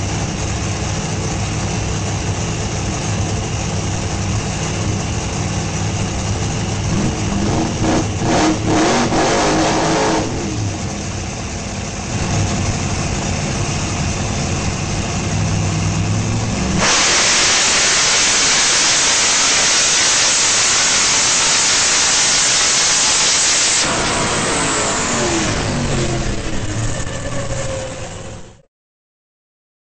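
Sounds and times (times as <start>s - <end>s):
drag car engine at full throttle: 0.0s - 28.7s.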